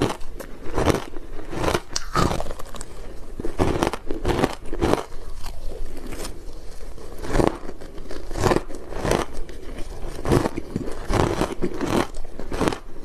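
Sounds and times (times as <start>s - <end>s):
crunching shaved ice: 0.0s - 13.0s.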